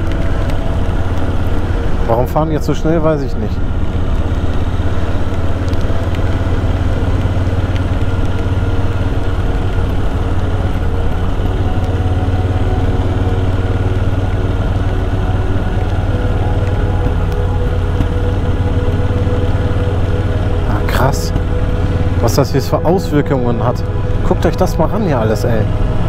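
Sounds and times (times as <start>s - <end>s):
motorcycle engine cruising: 0.0s - 26.0s
wind and road noise: 0.0s - 26.0s.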